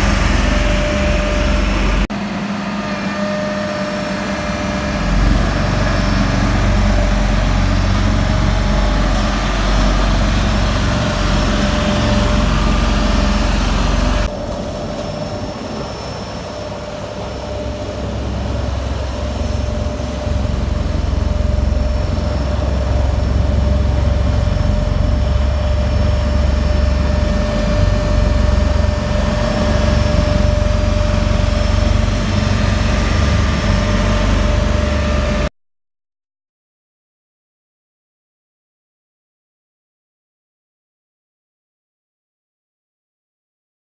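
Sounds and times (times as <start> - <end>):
roller diesel engine running: 0.0 - 35.5.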